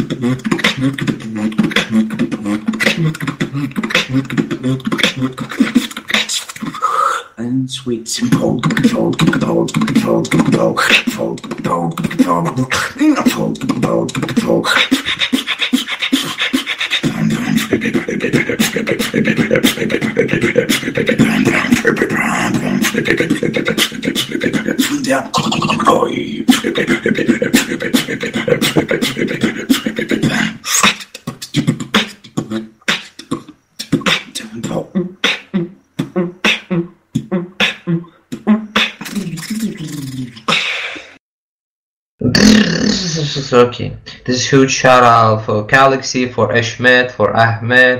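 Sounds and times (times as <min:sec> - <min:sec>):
person beatboxing: 0:00.0 - 0:07.5, 0:08.1 - 0:41.2
held vocal tone: 0:00.0 - 0:41.2.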